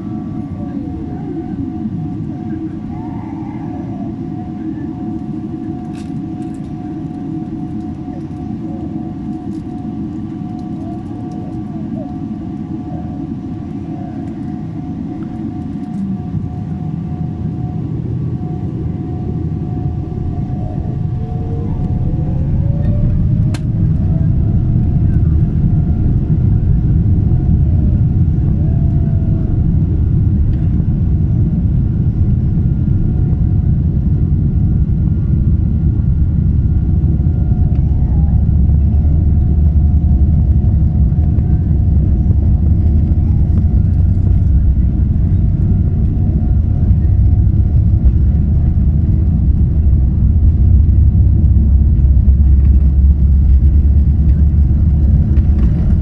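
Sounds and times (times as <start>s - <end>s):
faint steady whine: 0.0s - 56.0s
low rumble of jet engines: 0.0s - 56.0s.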